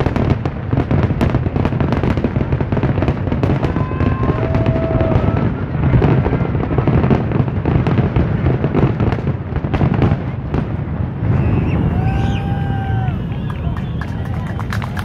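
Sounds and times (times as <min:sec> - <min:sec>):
continuous low rumble: 0:00.0 - 0:15.0
fireworks popping and crackling: 0:00.0 - 0:15.0.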